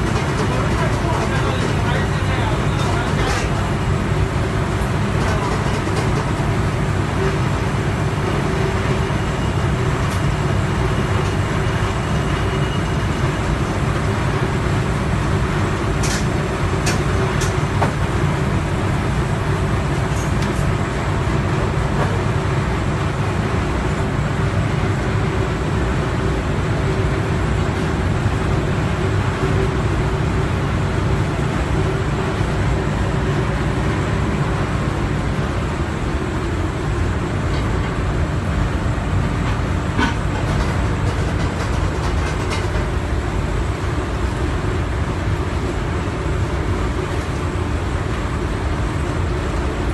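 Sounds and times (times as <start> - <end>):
refrigeration unit humming: 0.0 - 49.9.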